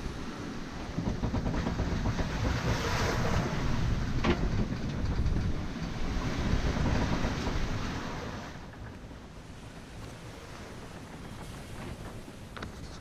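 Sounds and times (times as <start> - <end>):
sea wash: 0.0 - 13.0
wind: 0.0 - 13.0.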